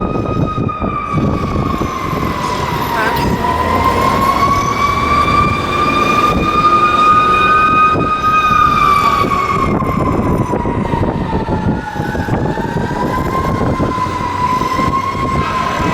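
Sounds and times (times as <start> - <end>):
fire truck siren wailing: 0.0 - 15.9
heavy engine rumble: 0.0 - 15.9.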